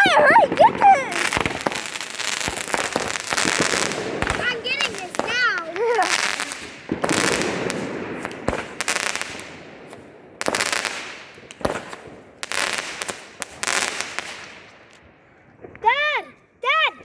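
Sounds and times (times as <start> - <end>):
fireworks banging and crackling: 0.0 - 16.9.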